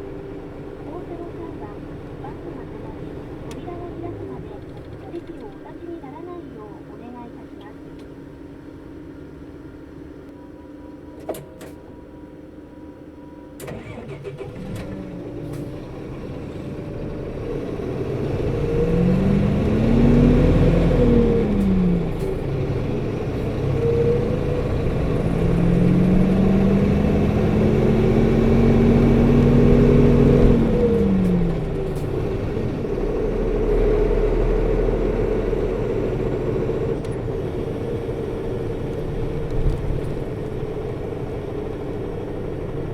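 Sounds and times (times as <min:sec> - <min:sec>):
bus diesel engine: 0:00.0 - 0:42.9.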